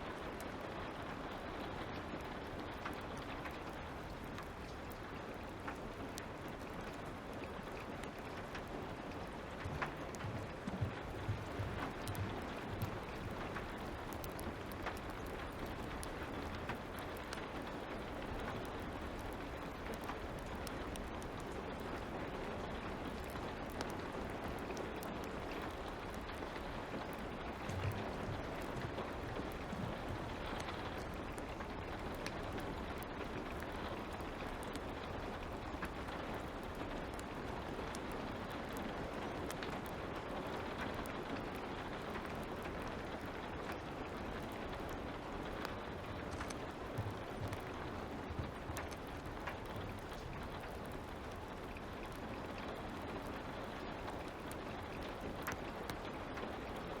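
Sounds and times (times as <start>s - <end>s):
light rain hissing: 0.0s - 57.0s
wood fire crackling: 0.0s - 57.0s.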